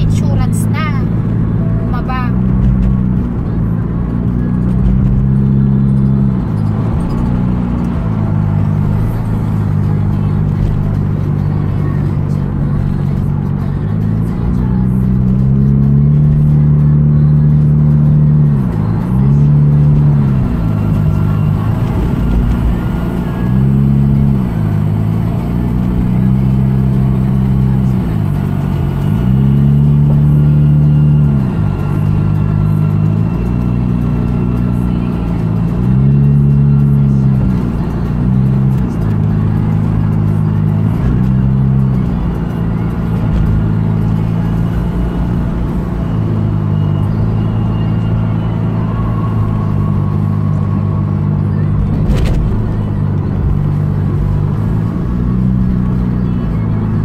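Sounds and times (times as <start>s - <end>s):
car engine hum: 0.0s - 57.0s
road noise inside car: 0.0s - 57.0s.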